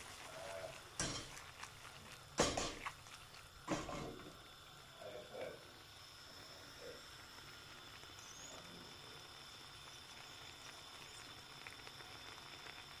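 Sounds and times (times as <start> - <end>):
sauce simmering in a pan: 0.0 - 13.0.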